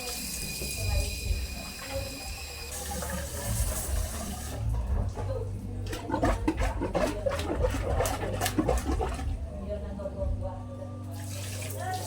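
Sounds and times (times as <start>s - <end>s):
running water: 0.0s - 9.5s, 11.1s - 12.0s.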